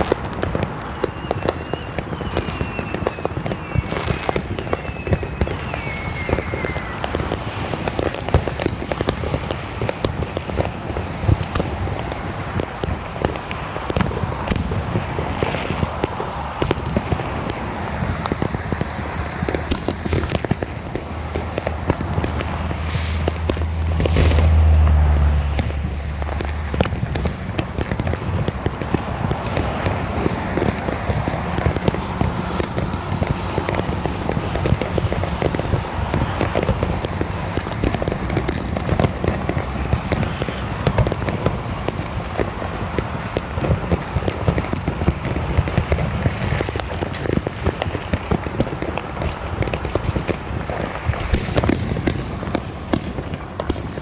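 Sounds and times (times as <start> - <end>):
fireworks crackling and popping: 0.0 - 54.0
loud firework bangs: 0.0 - 54.0.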